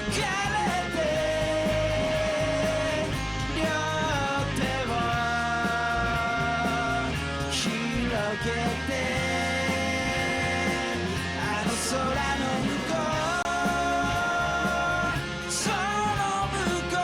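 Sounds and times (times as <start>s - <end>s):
rock song with vocals: 0.0s - 17.0s.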